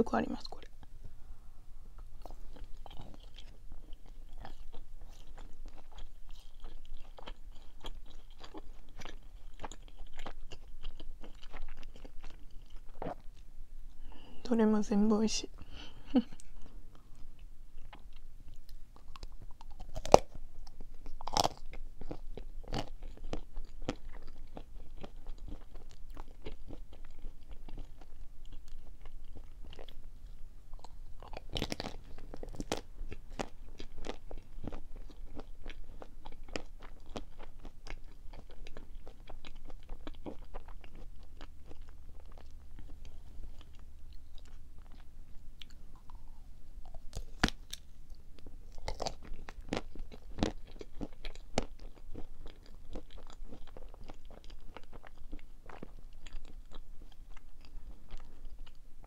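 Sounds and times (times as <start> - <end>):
chewing with wet mouth clicks: 2.0 - 13.5, 16.4 - 58.9.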